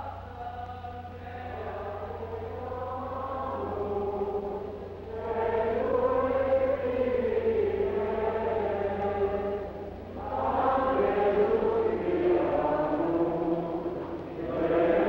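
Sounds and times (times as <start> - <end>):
choir chanting: 0.0 - 15.0.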